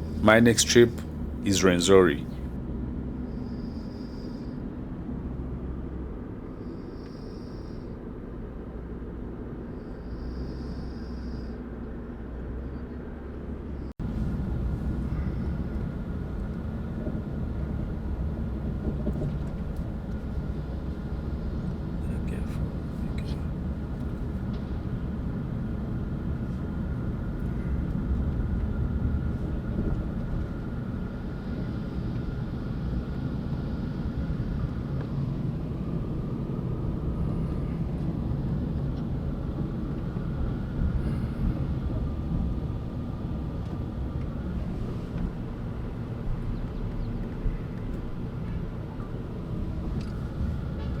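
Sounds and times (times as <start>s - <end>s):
vehicle engine and road rumble: 0.0s - 51.0s.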